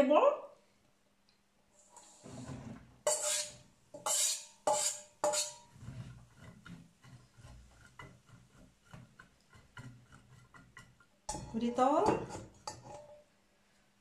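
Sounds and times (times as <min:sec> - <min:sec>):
metal spatula scraping pan: 0:02.0 - 0:13.2.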